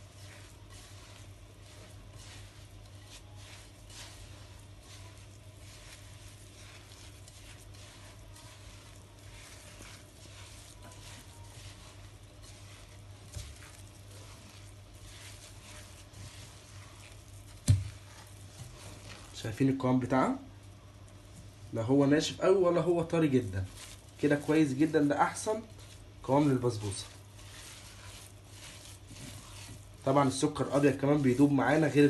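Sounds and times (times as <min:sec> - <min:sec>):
hands squishing batter: 0:00.0 - 0:32.0.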